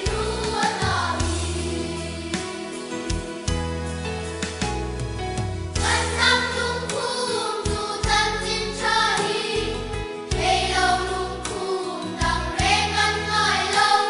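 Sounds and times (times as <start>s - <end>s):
children's choir singing: 0.0s - 3.5s, 5.8s - 14.0s
instrumental accompaniment with bass: 0.0s - 13.7s.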